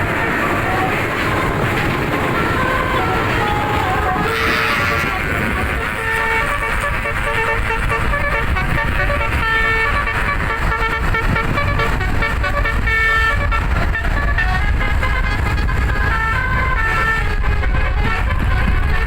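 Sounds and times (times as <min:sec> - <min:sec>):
bus trumpet horns playing tune: 0:00.0 - 0:19.0.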